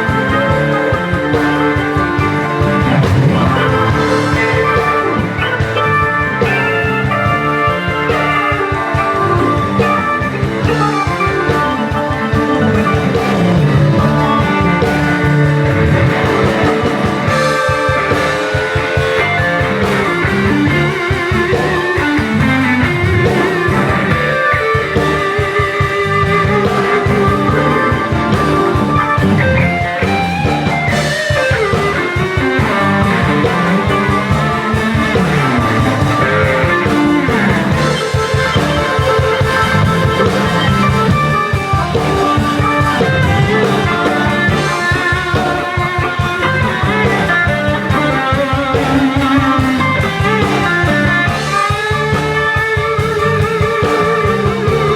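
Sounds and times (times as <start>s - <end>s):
bending electric guitar note: 0.0s - 54.9s
blues-rock band playing: 0.0s - 54.9s.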